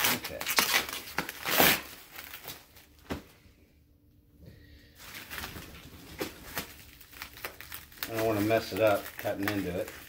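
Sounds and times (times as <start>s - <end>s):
plastic wrap rustling: 0.0s - 3.3s, 4.9s - 10.0s.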